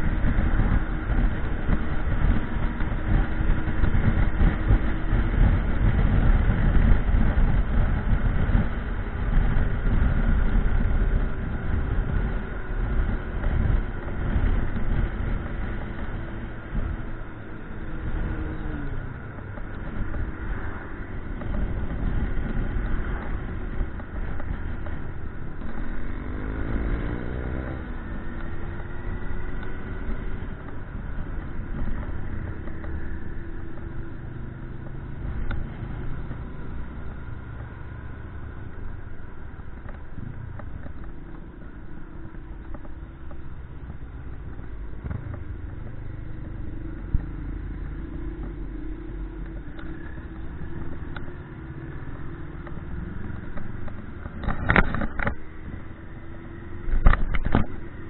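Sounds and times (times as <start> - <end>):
motorcycle engine running: 0.0 - 58.0
wind and road rumble: 0.0 - 58.0.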